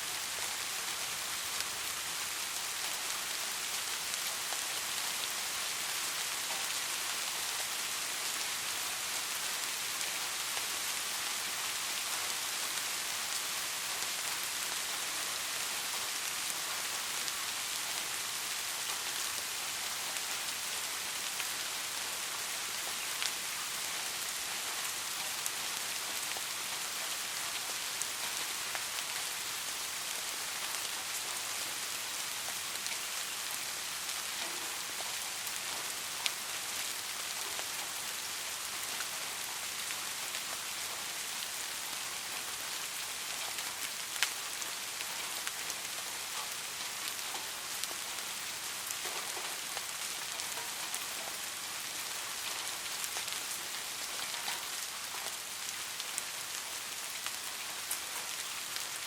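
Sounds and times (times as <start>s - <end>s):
rain falling on a street: 0.0s - 59.0s.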